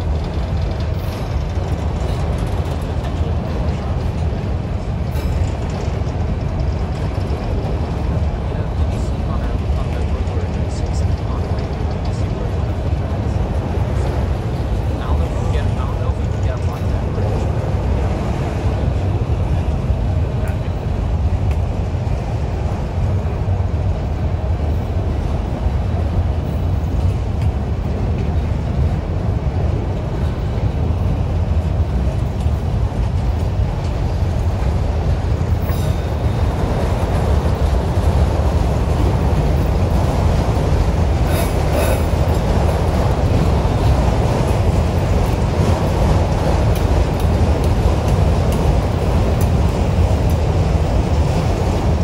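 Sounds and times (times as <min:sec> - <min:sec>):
freight train rumbling: 0:00.0 - 0:52.0.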